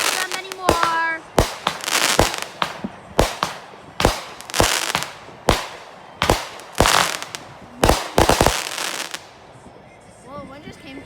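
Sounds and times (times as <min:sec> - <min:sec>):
fireworks crackling hiss: 0:00.0 - 0:09.4
fireworks bangs: 0:00.0 - 0:09.6.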